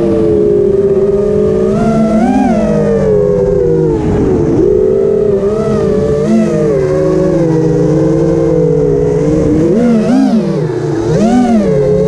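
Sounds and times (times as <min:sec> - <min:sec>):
drone propellers buzzing whine: 0:00.0 - 0:12.0.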